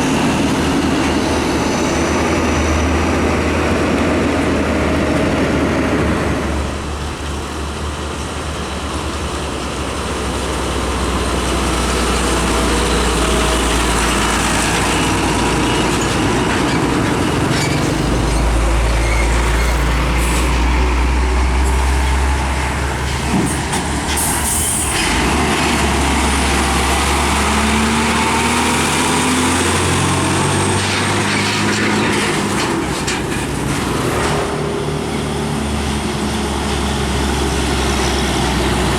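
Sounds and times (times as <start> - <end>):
diesel trucks driving past: 0.0 - 38.9
tyre and road noise: 0.0 - 38.9.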